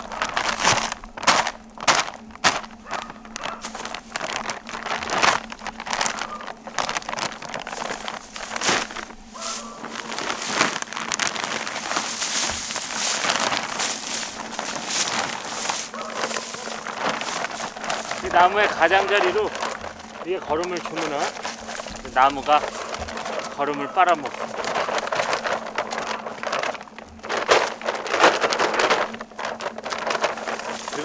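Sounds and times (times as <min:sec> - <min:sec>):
dry leaves crunching underfoot: 0:00.0 - 0:31.0
sack rustling: 0:00.0 - 0:31.0
sack tearing with sharp cracks: 0:00.0 - 0:31.0.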